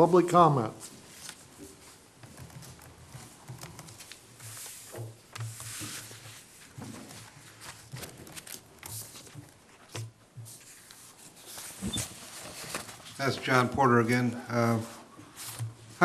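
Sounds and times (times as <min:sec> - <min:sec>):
small clicks and shuffles: 0:00.8 - 0:14.2
papers rustling: 0:00.8 - 0:16.0.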